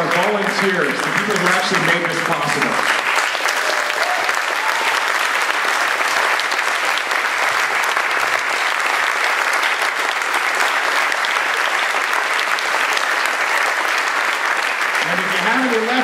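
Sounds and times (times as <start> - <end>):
large audience applauding: 0.0 - 16.0.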